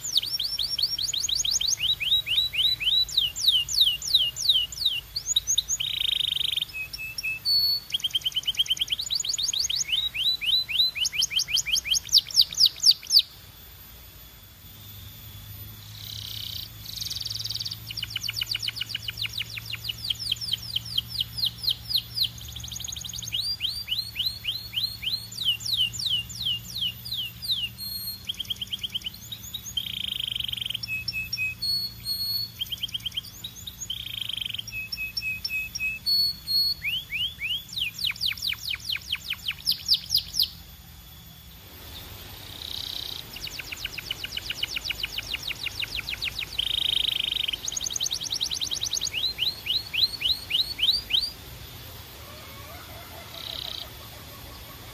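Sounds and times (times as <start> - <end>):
canary singing trills: 0.0 - 13.7, 14.3 - 54.9.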